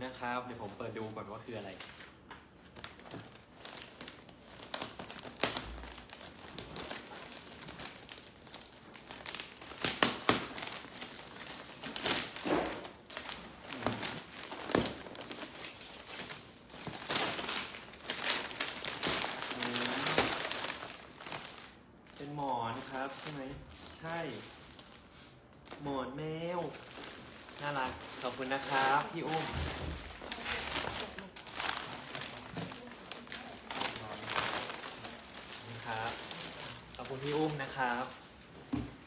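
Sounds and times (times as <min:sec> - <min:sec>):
wrapping paper crinkling: 0:00.4 - 0:39.0.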